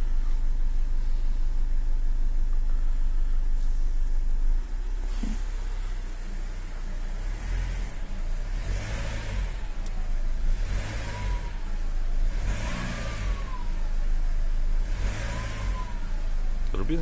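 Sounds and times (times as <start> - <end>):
diesel engine revving: 0.0 - 17.0
turbocharger whine: 0.0 - 17.0.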